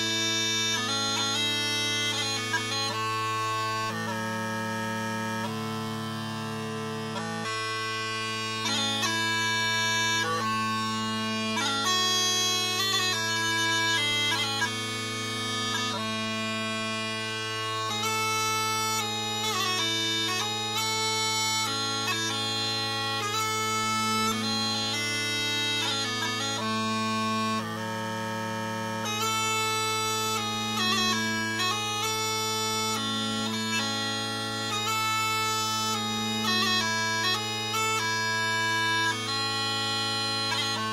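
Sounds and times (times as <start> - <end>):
smallpipes chanter melody: 0.0 - 27.7, 29.0 - 40.9
bagpipe drones: 0.0 - 40.9.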